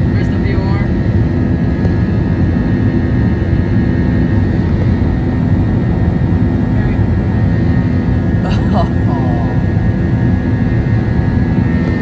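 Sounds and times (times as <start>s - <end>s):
jet engine low rumble: 0.0s - 8.5s, 9.5s - 12.0s.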